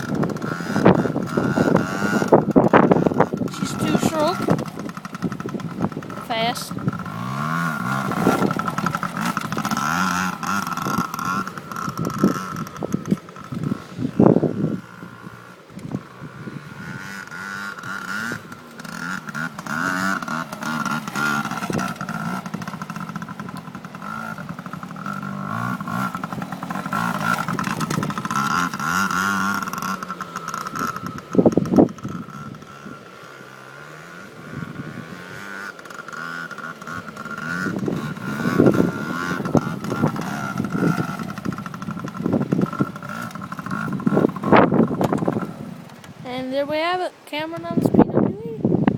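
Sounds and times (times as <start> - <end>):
two-stroke dirt bike engine revving: 0.0 - 48.9.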